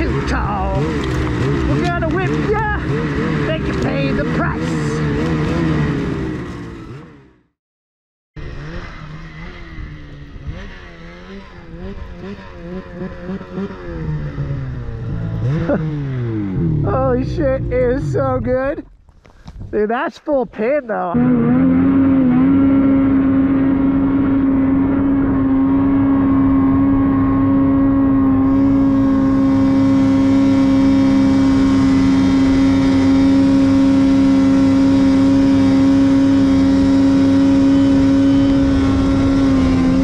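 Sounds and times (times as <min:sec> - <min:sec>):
snowmobile engine at high revs: 0:00.0 - 0:07.4, 0:08.4 - 0:18.7, 0:21.1 - 0:40.0.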